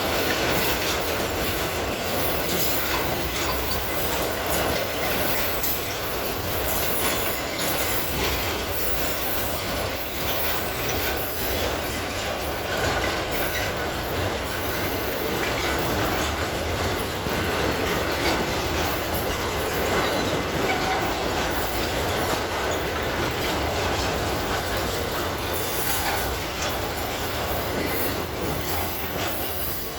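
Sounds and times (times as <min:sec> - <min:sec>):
steel wheels rumbling on rail: 0:00.0 - 0:29.9.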